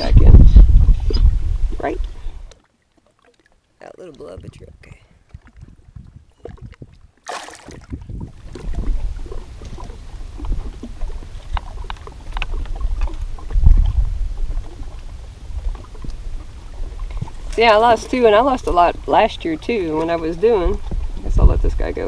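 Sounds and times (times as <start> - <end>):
wind buffeting microphone: 0.0 - 2.5, 4.2 - 22.0.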